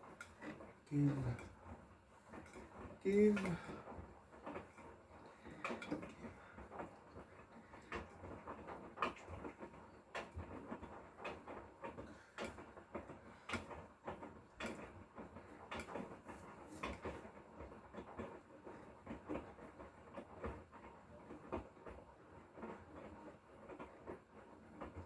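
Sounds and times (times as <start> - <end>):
irregular knocks and clicks: 0.0 - 25.0
washing machine drum running: 0.0 - 25.0.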